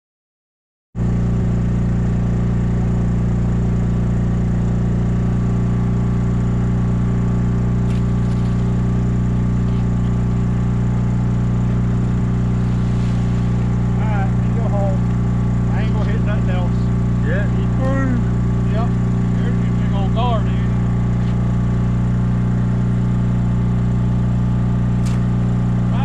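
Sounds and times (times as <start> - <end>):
small engine droning: 1.0 - 26.0.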